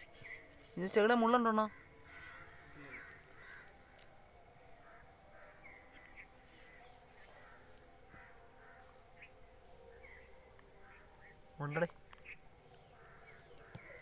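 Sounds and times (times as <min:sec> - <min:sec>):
birds calling: 0:00.0 - 0:03.9, 0:04.8 - 0:14.0
pulsing insect drone: 0:00.0 - 0:14.0.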